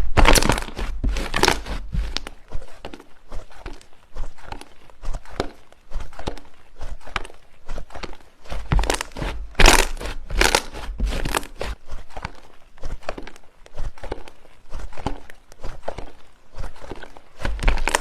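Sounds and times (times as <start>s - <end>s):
slime squeezed by hand crackling: 0.0s - 18.0s.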